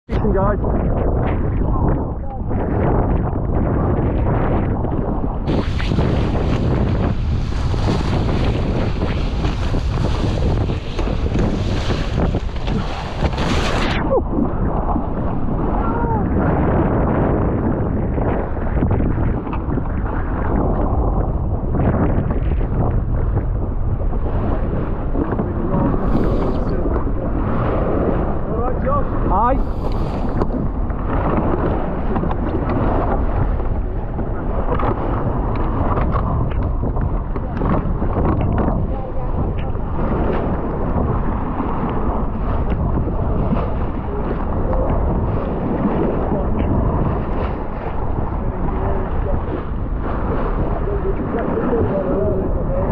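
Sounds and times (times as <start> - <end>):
wind buffeting microphone: 0.0 - 52.9
water rushing past hull: 0.1 - 52.9.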